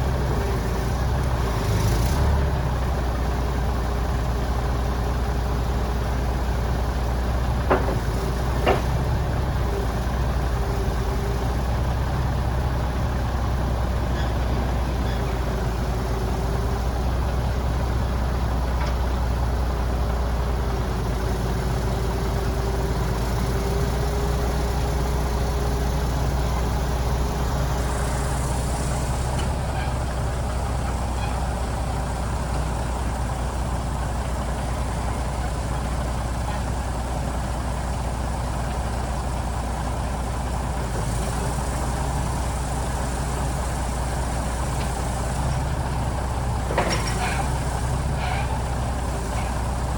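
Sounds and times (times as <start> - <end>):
truck diesel engine idling: 0.0 - 49.9.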